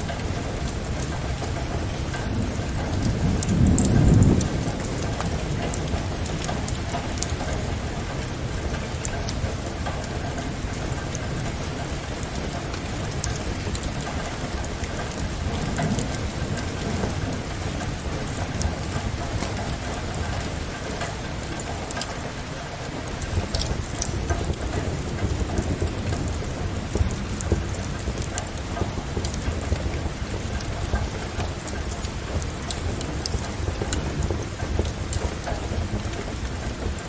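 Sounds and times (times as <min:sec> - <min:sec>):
low rumble of thunder: 0:00.0 - 0:37.0
steady rain: 0:00.0 - 0:37.0
wood fire crackling: 0:00.0 - 0:37.0.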